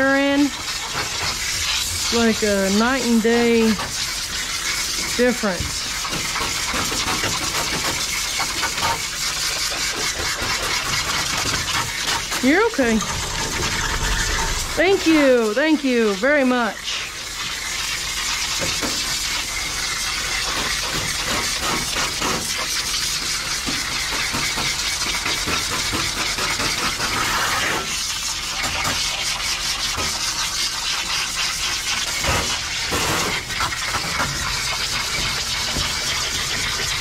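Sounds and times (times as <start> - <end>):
water spraying from hose nozzle: 0.0 - 37.0.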